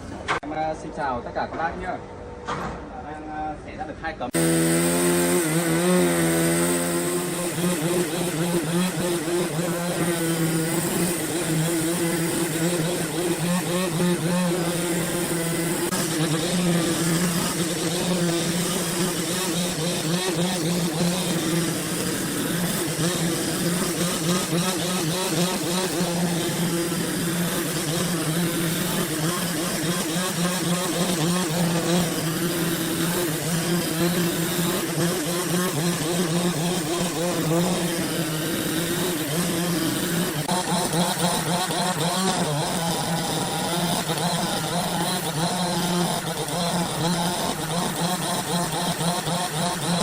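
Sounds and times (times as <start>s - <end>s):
engine-driven saw cutting log: 4.3s - 50.0s.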